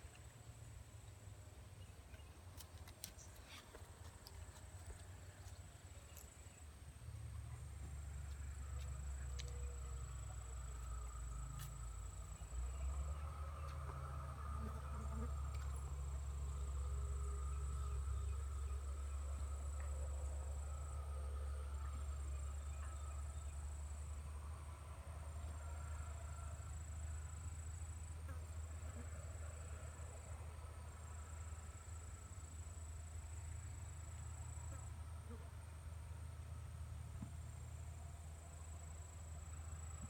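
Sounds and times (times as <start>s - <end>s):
low steady rumble: 3.1s - 40.0s.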